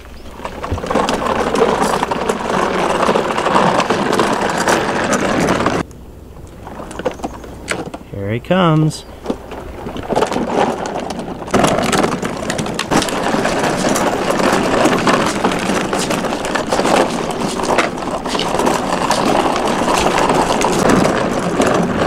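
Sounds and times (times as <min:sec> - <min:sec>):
plastic wheels rolling on asphalt: 0:00.0 - 0:22.0.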